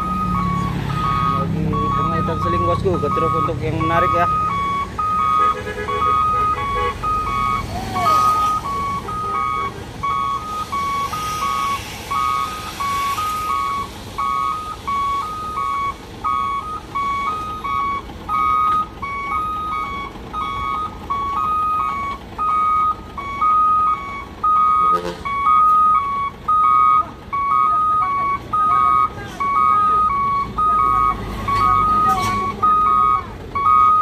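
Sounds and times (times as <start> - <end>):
diesel engine running: 0.0 - 34.0
two-tone reversing alarm beeping: 0.0 - 34.0.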